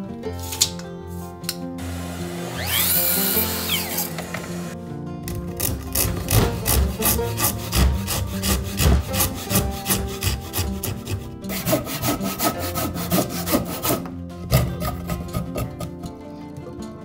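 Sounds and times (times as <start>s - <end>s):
hand saw cutting wood: 1.8s - 16.1s.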